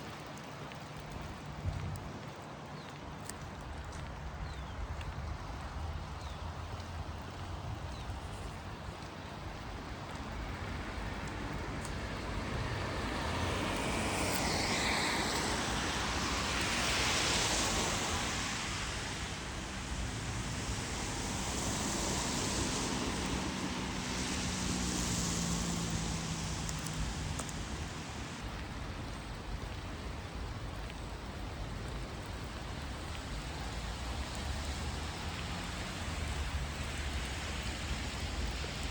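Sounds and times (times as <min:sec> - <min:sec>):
rain hiss: 0:00.0 - 0:38.9
vehicle passing on wet road: 0:00.0 - 0:38.9.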